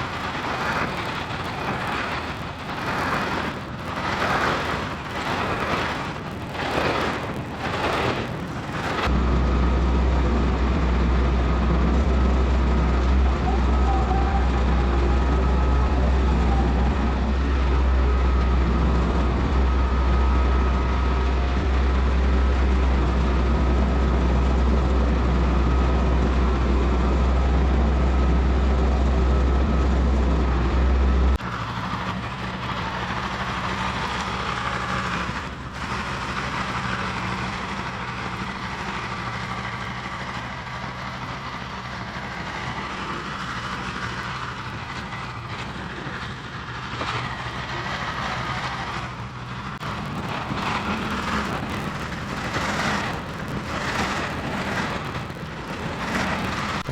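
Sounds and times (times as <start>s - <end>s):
diesel engine low rumble: 0.0s - 56.9s.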